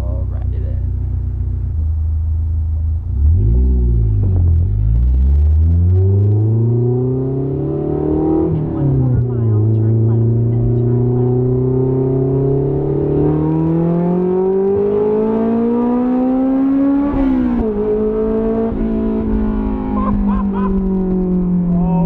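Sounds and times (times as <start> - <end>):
loud car engine revving: 3.0 - 22.0.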